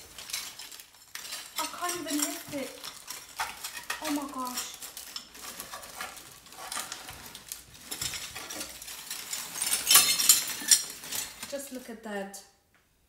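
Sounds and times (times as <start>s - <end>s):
ceramic dishes clinking and scraping: 0.0s - 7.2s, 7.8s - 11.4s.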